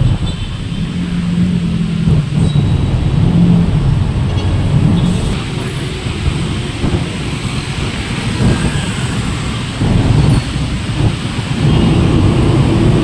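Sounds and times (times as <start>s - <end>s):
heavy low rumble: 0.0s - 13.0s
vehicle engines: 0.0s - 13.0s.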